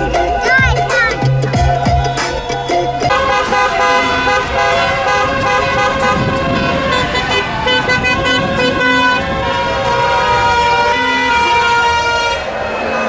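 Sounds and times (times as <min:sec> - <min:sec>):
car horns honking: 0:00.0 - 0:13.0.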